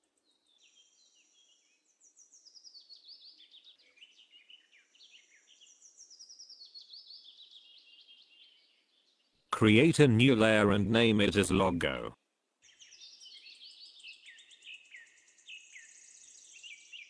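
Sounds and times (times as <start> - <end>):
faint bird chirps and trills: 0.0 - 9.5, 12.6 - 17.0.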